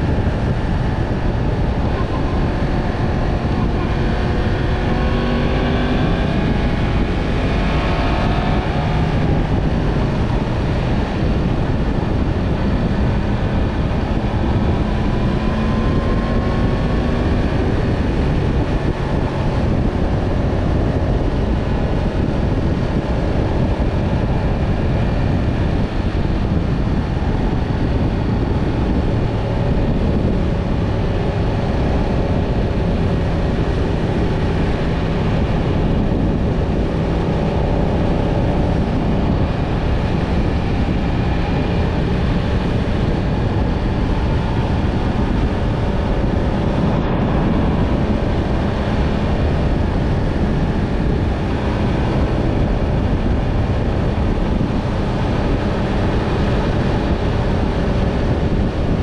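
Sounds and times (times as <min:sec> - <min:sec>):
heavy rush of noise: 0:00.0 - 0:59.0
motorcycle engine running: 0:00.0 - 0:59.0.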